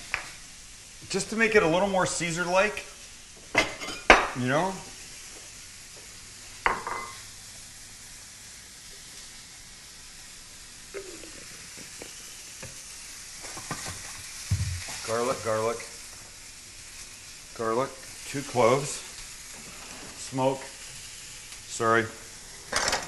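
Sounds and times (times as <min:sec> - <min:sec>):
food frying in butter: 0:00.0 - 0:23.0.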